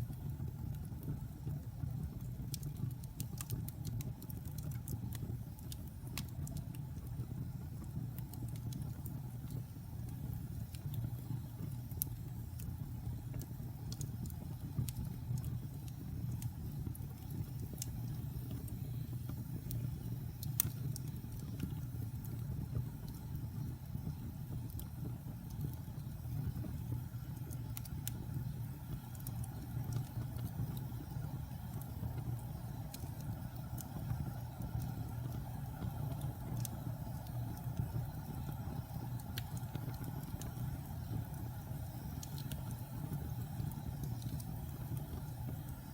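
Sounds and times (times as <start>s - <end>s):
fire crackling: 0.0s - 45.9s.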